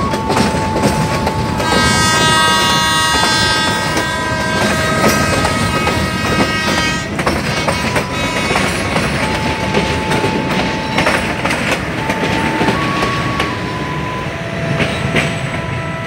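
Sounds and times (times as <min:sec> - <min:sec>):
train wheels clicking over rail joints: 0:00.0 - 0:15.8
train rumble: 0:00.0 - 0:16.0
wheels squealing: 0:00.0 - 0:16.0.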